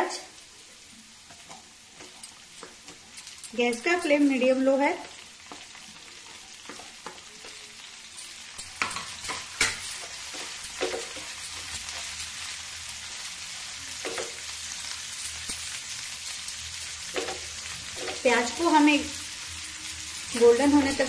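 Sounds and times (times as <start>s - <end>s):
onions sizzling in oil: 0.0s - 21.0s
spatula scraping a pan: 1.3s - 18.6s.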